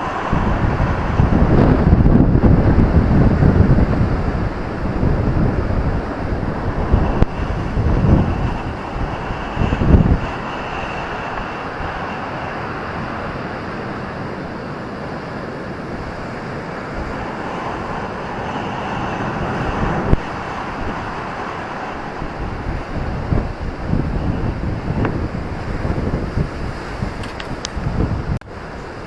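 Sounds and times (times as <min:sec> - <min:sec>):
waves breaking on beach: 0:00.0 - 0:29.0
wind buffeting microphone: 0:00.0 - 0:29.0.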